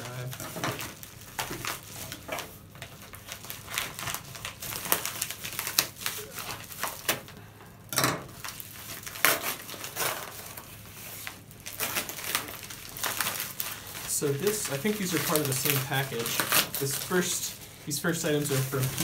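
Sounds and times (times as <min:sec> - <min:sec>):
paper mailer tearing and crinkling: 0:00.0 - 0:07.4, 0:08.4 - 0:19.0.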